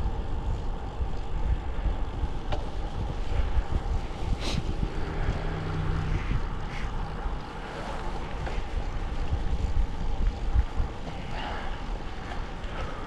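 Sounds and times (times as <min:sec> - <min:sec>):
low steady hum: 0:00.0 - 0:13.0
wind buffeting microphone: 0:00.0 - 0:13.0.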